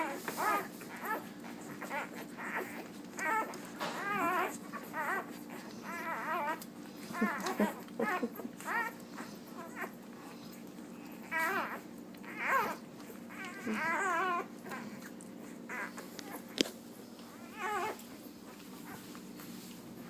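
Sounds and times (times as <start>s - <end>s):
puppies whining and squealing: 0.0s - 20.0s.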